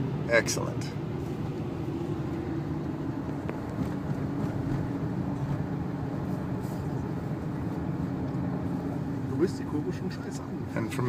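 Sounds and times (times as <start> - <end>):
car engine and tyres droning: 0.0 - 11.0.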